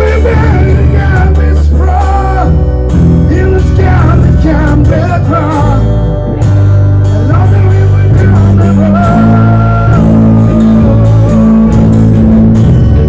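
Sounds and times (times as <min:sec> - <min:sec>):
person singing: 0:00.0 - 0:02.6, 0:03.3 - 0:05.9, 0:07.0 - 0:12.3
guitar: 0:00.0 - 0:13.0
steady bass line: 0:00.0 - 0:13.0.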